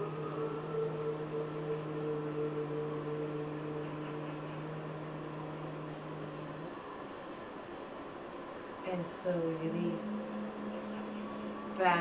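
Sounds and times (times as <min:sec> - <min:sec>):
calm music of low held tones: 0:00.0 - 0:12.0.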